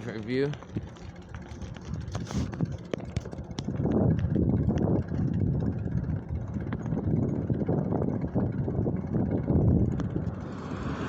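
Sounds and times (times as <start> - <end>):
highway traffic rumble: 0.0 - 11.0
wind on microphone: 0.7 - 11.0.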